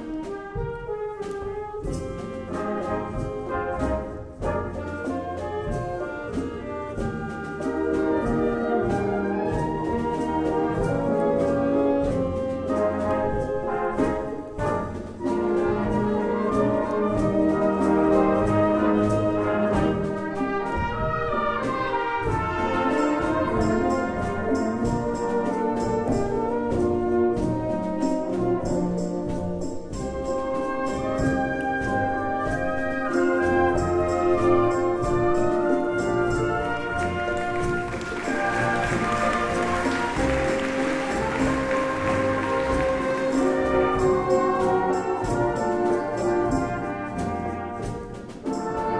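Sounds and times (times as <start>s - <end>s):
wind band playing rumba: 0.0s - 48.9s.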